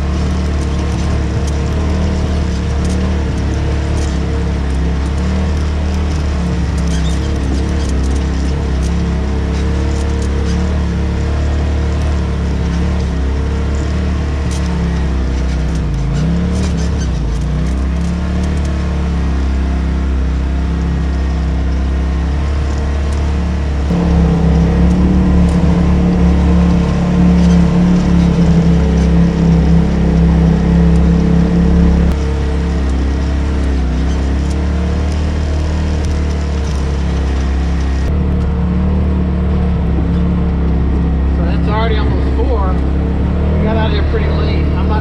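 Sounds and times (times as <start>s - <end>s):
engine running under load: 0.0s - 45.0s.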